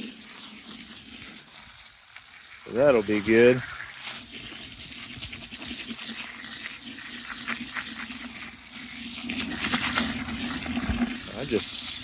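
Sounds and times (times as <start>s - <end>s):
water gushing from a hose: 0.0s - 12.0s.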